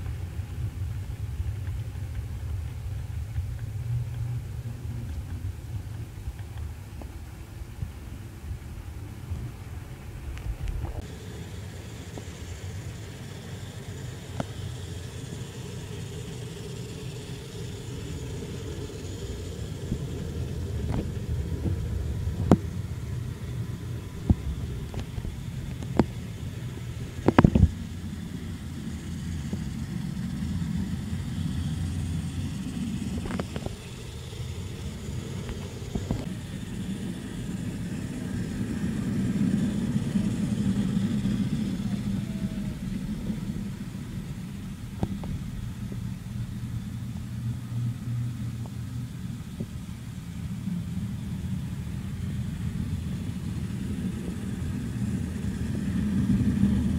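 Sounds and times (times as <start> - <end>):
model train rumbling on rails: 0.0 - 56.9.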